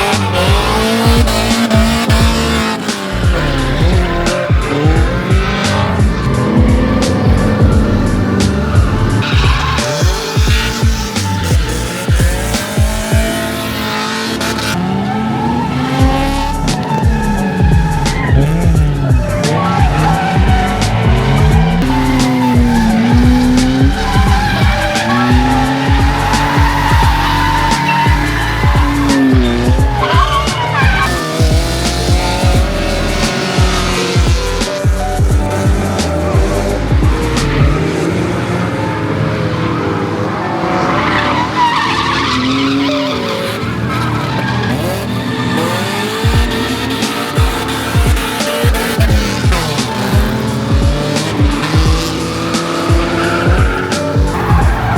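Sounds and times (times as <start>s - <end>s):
car engines revving: 0.0s - 54.9s
music playing: 0.0s - 54.9s
tyres skidding: 0.0s - 54.9s.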